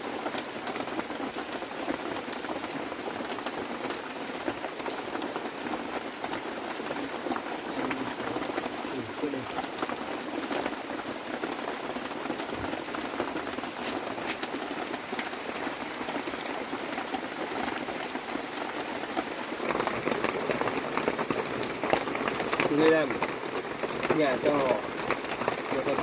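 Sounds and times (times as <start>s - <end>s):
rain falling on a surface: 0.0s - 26.0s.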